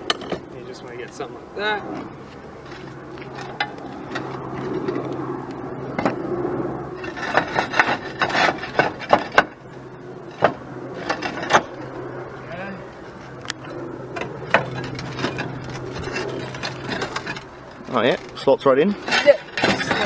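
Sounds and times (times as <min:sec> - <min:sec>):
roofing material scraping: 0:00.0 - 0:13.4, 0:14.1 - 0:20.0.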